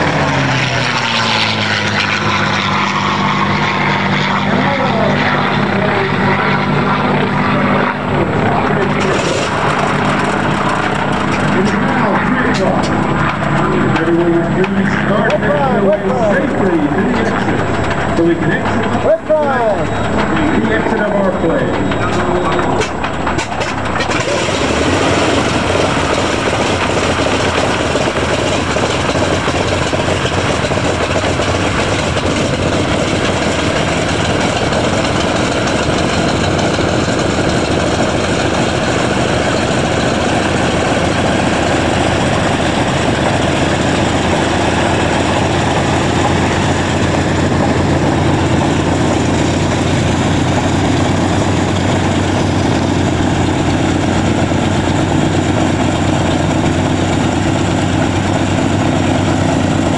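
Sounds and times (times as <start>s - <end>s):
radial aircraft engine idling: 0.0s - 59.9s.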